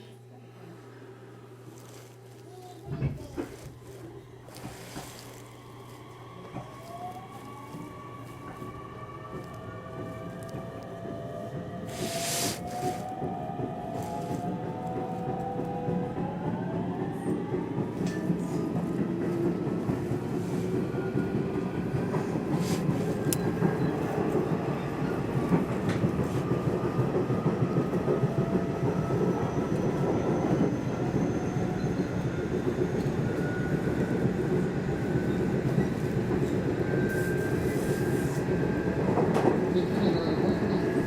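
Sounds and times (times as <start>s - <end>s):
train wheels rumbling on rails: 2.8s - 41.0s.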